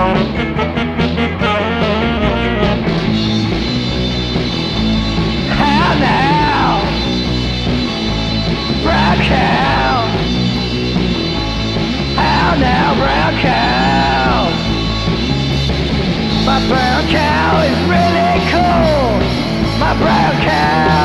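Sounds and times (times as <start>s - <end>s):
lead guitar line swooping in pitch: 0.0s - 21.0s
rock band playing: 0.0s - 21.0s.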